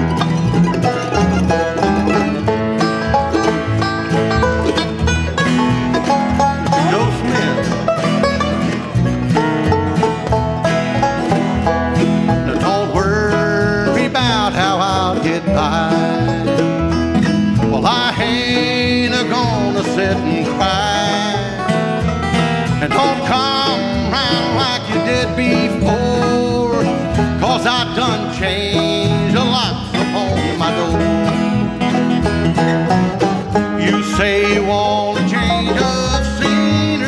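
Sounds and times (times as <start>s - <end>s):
bluegrass band playing: 0.0s - 37.0s.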